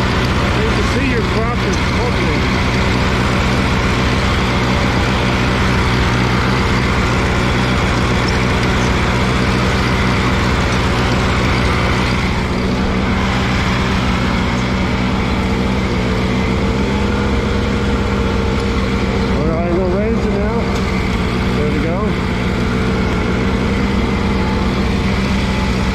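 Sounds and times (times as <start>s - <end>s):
tractor engine running under load: 0.0s - 25.9s.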